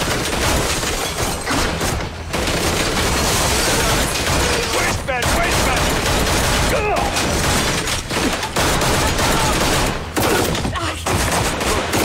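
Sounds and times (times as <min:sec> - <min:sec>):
heavy gunfire: 0:00.0 - 0:12.0.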